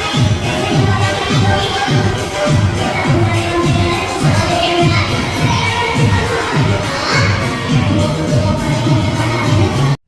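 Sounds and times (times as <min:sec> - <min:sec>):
loud dance music: 0:00.0 - 0:10.0.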